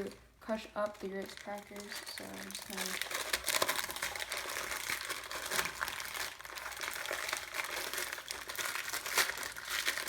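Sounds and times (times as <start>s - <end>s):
plastic bag crinkling: 0.0s - 10.0s
crackers crunching: 0.8s - 10.0s.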